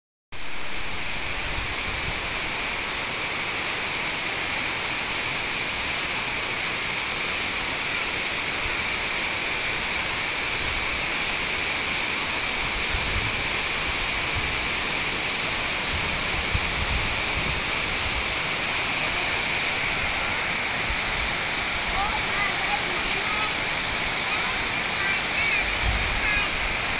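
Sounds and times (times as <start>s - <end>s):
waterfall rushing: 0.4s - 26.9s.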